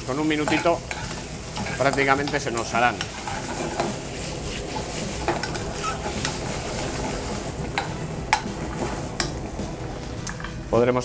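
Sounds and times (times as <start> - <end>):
food sizzling in a frying pan: 0.0 - 10.7.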